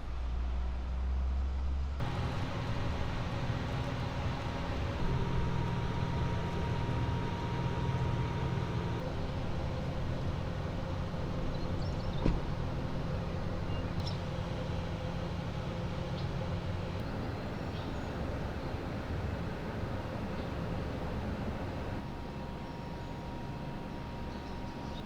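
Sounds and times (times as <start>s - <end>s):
diesel engines idling: 2.0s - 25.0s.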